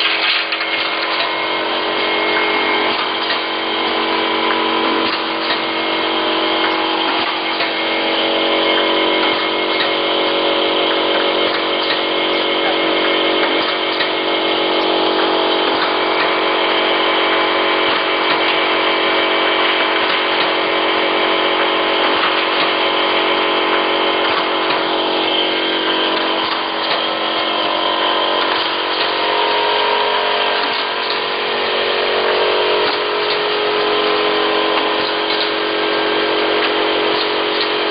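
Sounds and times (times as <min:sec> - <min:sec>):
machine motor hum: 0:00.0 - 0:37.9.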